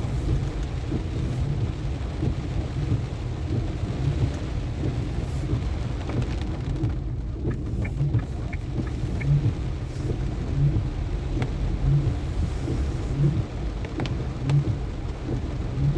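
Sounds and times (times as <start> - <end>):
light ticks: 0.0 - 15.9
rain hissing: 0.0 - 15.9
tyres rumbling on wet road: 0.0 - 15.9.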